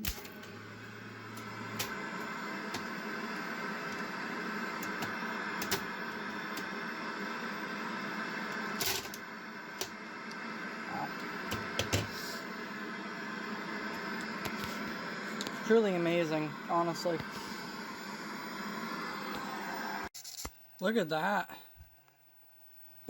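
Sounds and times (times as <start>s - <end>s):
tape machine whir and hiss: 0.0s - 20.1s.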